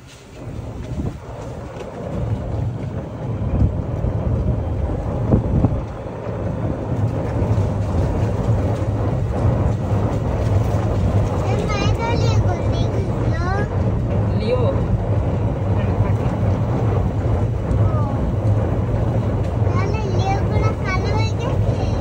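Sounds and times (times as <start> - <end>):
tyres rumbling on paving: 0.0 - 22.0
wind against open cab: 0.0 - 22.0.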